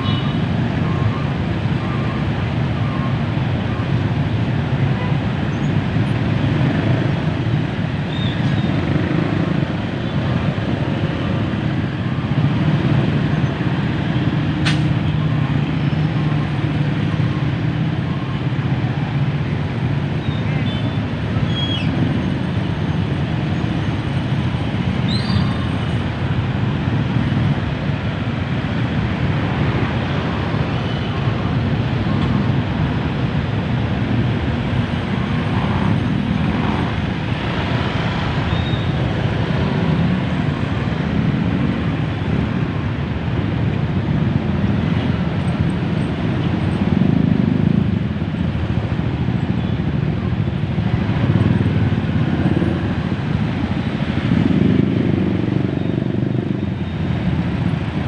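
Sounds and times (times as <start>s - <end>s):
road traffic din: 0.0s - 58.0s.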